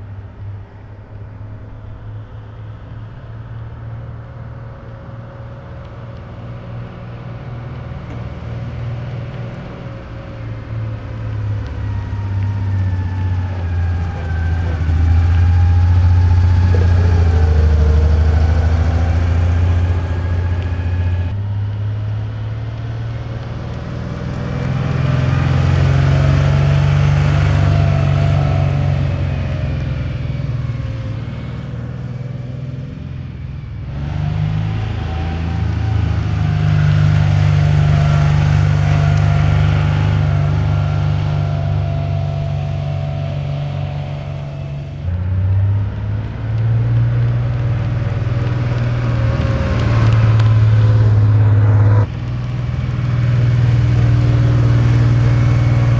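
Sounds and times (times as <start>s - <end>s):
car engine driving past: 0.0s - 55.9s.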